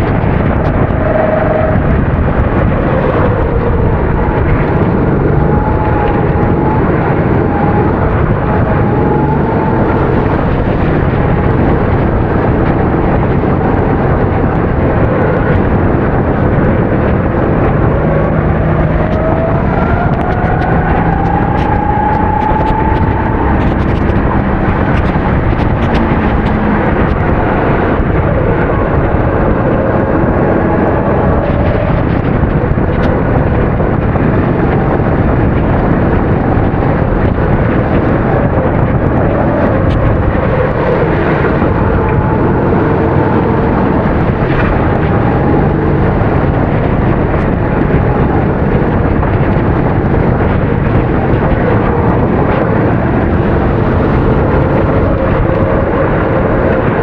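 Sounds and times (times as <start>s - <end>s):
kart engines racing: 0.0s - 57.0s
steady rushing noise: 0.0s - 57.0s.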